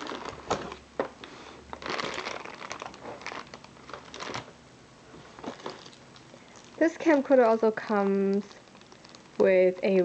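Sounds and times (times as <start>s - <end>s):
packaging crinkling: 0.0s - 0.8s, 1.7s - 4.6s, 5.3s - 10.0s.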